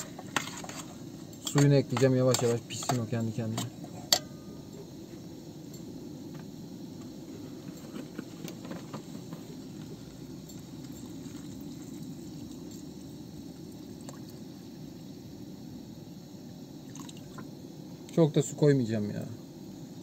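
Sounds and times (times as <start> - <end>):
gas stove hiss: 0.0 - 20.0.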